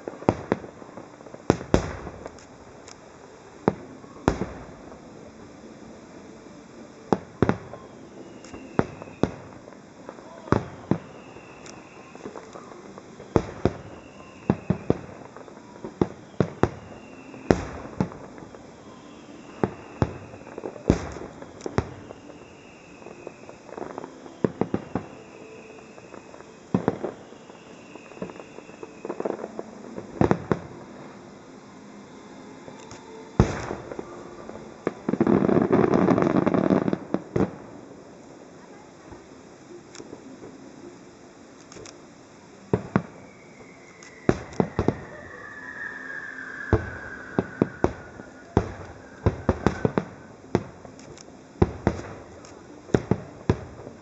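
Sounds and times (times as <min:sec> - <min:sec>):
fireworks bursting with sharp bangs: 0:00.0 - 0:54.0.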